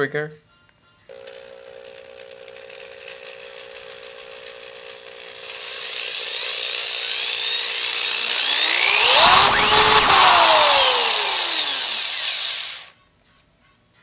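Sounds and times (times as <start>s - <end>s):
hammer drill whining: 1.6s - 12.9s.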